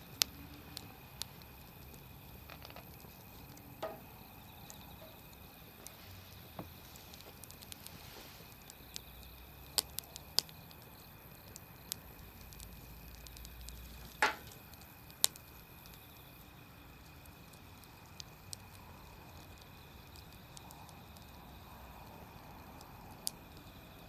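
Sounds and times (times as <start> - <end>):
campfire crackling and popping: 0.0 - 24.0
low steady fire hiss: 0.0 - 24.0.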